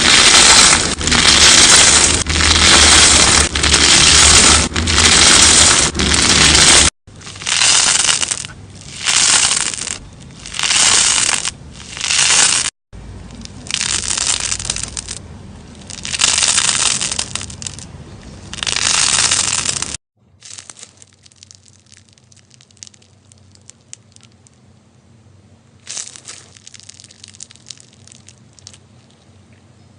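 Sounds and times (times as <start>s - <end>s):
slime crackling when squeezed: 0.0s - 12.7s, 13.3s - 15.2s, 15.8s - 24.6s, 25.8s - 29.1s.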